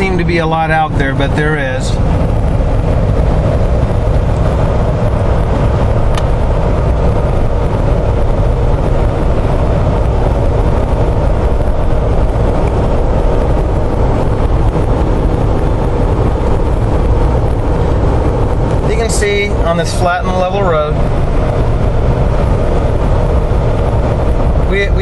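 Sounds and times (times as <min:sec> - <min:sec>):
engine drone: 0:00.0 - 0:25.0
tyre and wind noise: 0:00.0 - 0:25.0.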